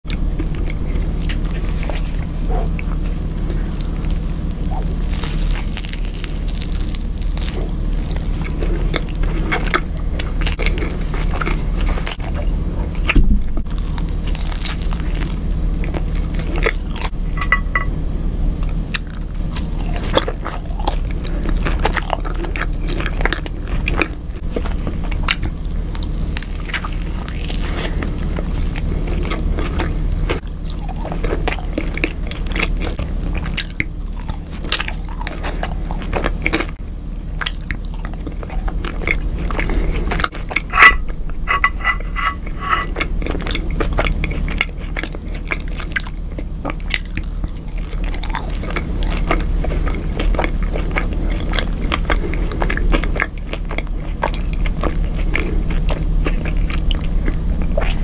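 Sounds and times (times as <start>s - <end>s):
person chewing crunchy food: 0.0s - 18.0s, 18.6s - 58.0s.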